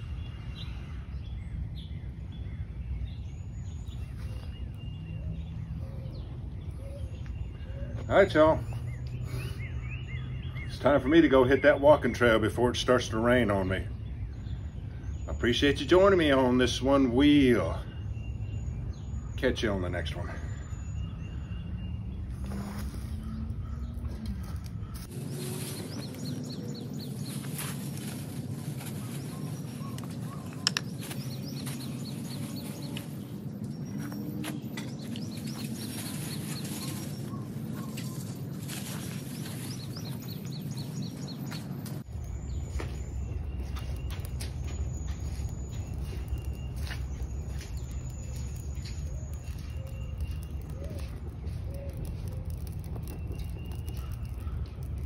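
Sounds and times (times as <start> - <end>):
bird chirping: 0.0 - 55.0
low outdoor rumble: 0.0 - 55.0.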